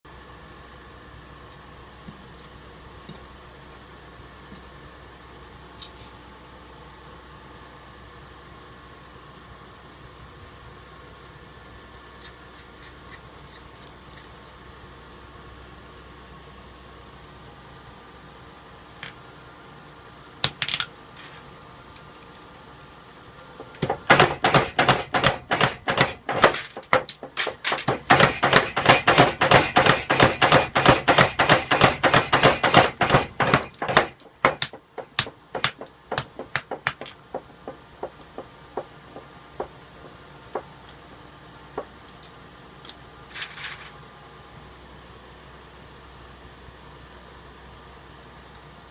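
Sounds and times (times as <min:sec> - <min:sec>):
steady background hum: 0:00.1 - 0:48.9.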